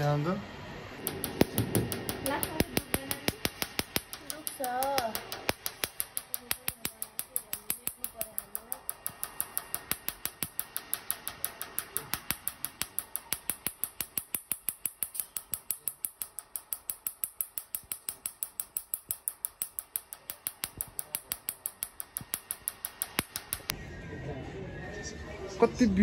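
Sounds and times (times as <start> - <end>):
laser firing sharp snaps: 1.0 - 23.7.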